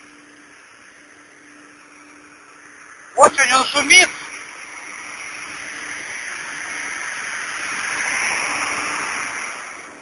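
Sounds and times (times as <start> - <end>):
generator fan rushing noise: 0.0 - 10.0.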